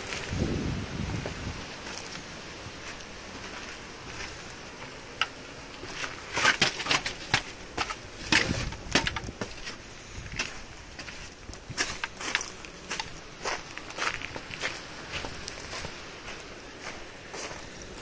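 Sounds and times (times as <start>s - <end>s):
background hiss: 0.0s - 18.0s
footsteps crunching on gravel: 1.1s - 18.0s.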